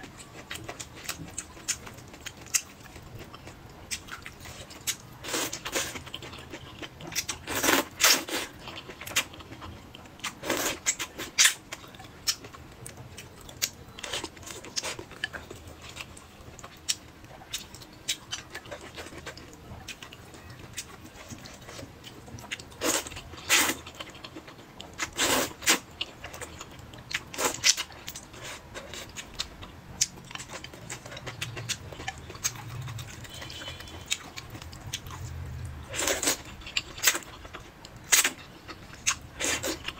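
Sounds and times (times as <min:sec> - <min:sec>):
wet chewing: 0:00.1 - 0:39.9.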